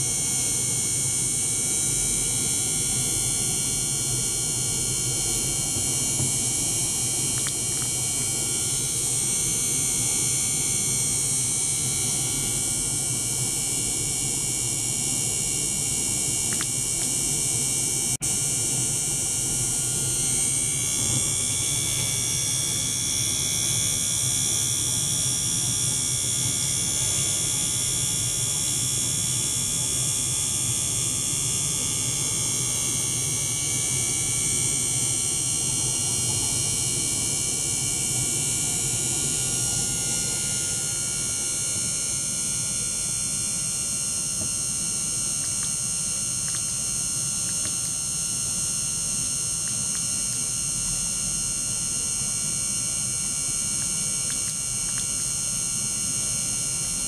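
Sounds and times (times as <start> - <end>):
electric pump humming: 0.0 - 57.0.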